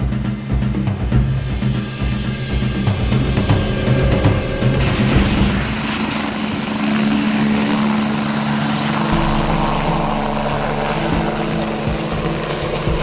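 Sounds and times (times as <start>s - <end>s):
helicopter engine hum: 0.0s - 13.0s
broad rushing noise: 1.8s - 13.0s.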